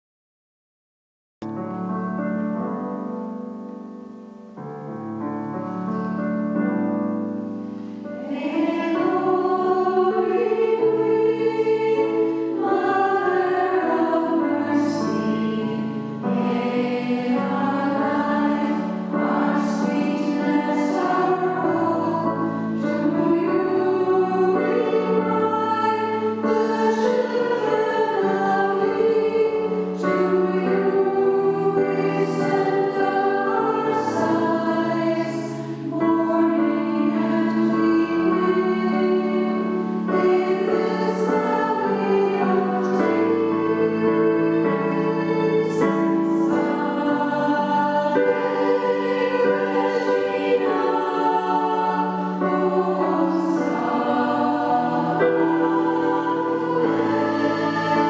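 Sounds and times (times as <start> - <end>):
keyboard accompaniment: 1.4 - 58.0
women's choir singing a hymn: 5.4 - 58.0.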